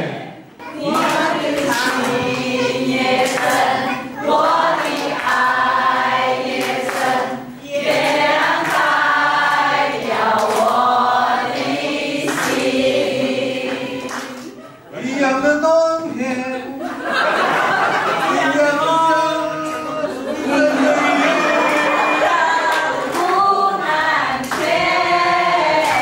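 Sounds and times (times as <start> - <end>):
women singing together: 0.0 - 14.9, 17.0 - 26.0.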